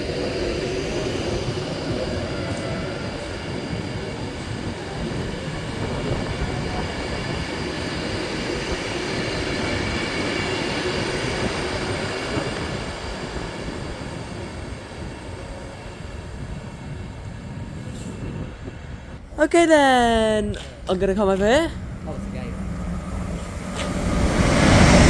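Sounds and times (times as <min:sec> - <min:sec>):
train wheels rumbling on rail: 0:00.0 - 0:19.3, 0:20.5 - 0:25.0.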